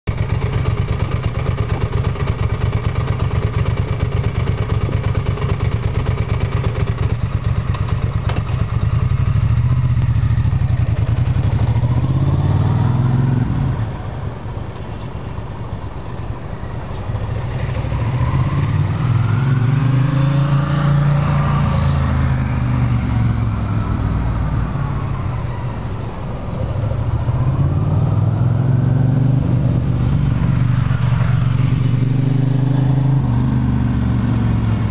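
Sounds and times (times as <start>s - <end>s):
motorcycle engine revving: 0.1s - 13.9s, 17.0s - 24.8s, 26.8s - 34.9s.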